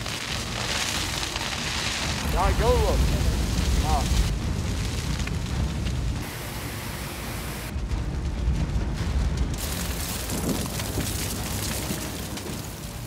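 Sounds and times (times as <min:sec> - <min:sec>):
wildfire burning: 0:00.0 - 0:13.0.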